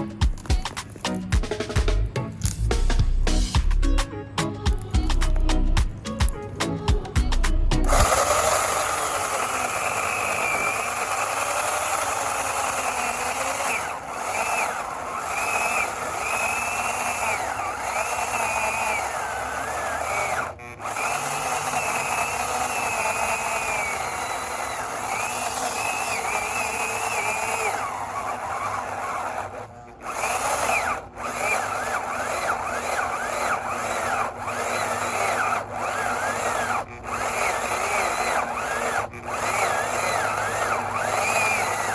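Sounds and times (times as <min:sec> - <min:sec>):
electric chainsaw whining: 0:00.0 - 0:01.7, 0:04.6 - 0:41.9.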